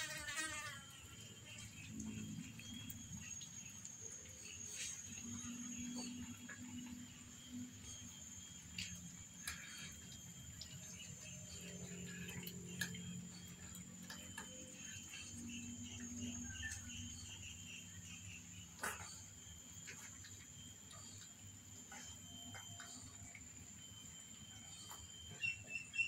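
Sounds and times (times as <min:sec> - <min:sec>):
high insect drone: 0:00.0 - 0:26.0
cats chewing and crunching food: 0:00.9 - 0:25.5.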